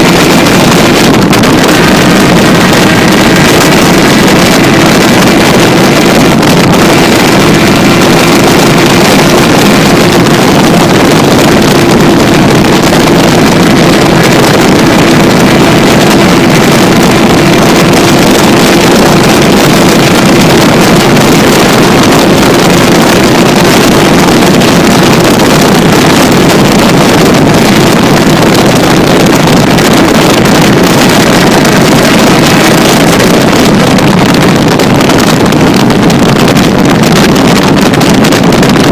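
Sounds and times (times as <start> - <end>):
motorcycle engine at steady revs: 0.0 - 38.9
wind noise: 0.0 - 38.9.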